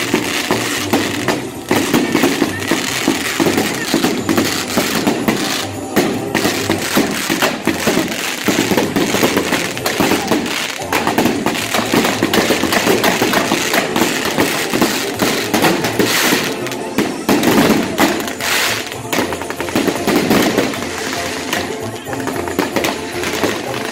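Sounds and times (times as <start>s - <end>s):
fireworks crackling and banging: 0.0s - 23.9s.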